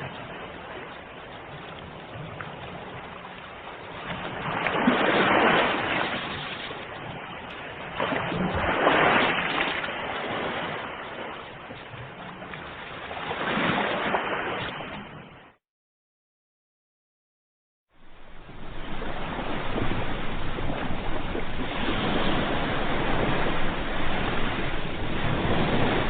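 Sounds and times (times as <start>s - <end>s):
ocean waves breaking on shore: 0.0s - 15.6s, 17.9s - 26.0s.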